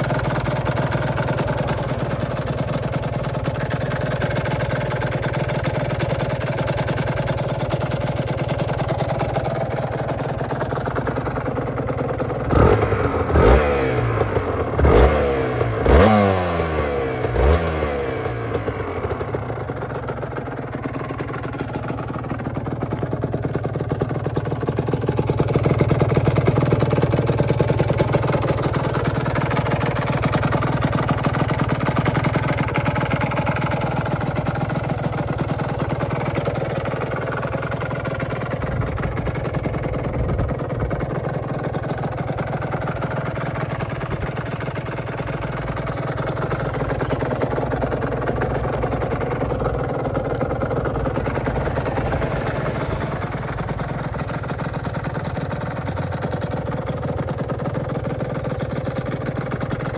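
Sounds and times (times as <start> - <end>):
two-stroke motorcycle engine idling: 0.0 - 59.9.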